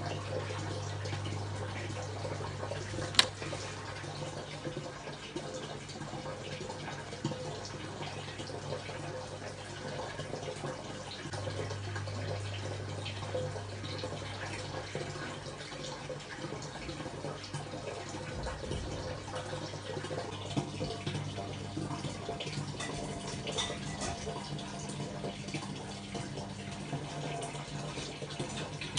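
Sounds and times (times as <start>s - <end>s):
small clicks and drips: 0.0s - 28.9s
tap water splashing into sink: 0.0s - 28.9s.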